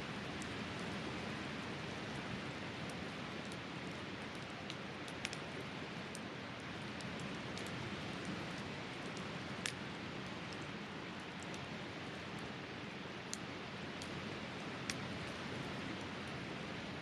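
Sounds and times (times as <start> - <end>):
campfire crackling: 0.1 - 17.0.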